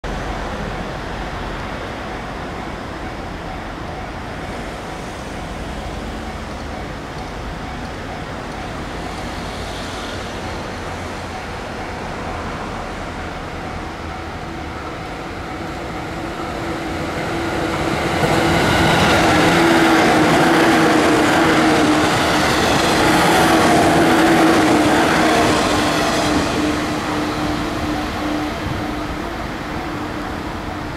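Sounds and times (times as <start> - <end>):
train passing on track: 0.0 - 30.9.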